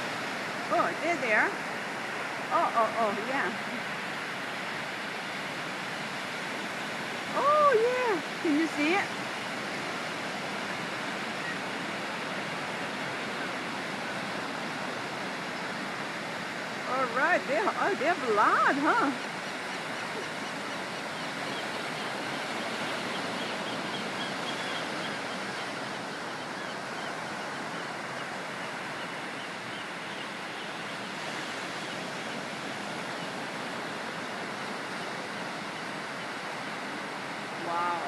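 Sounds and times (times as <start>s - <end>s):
sea surf washing: 0.0s - 38.0s.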